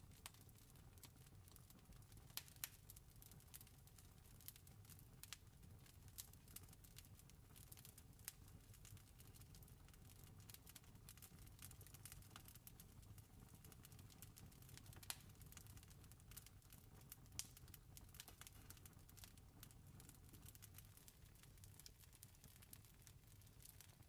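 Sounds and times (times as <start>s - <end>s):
fire popping: 0.0s - 24.0s
campfire crackling: 0.1s - 0.4s, 1.0s - 24.0s.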